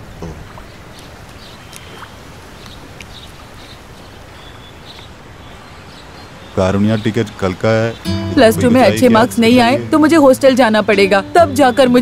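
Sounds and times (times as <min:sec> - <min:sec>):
outdoor lakeside ambience: 0:00.0 - 0:12.0.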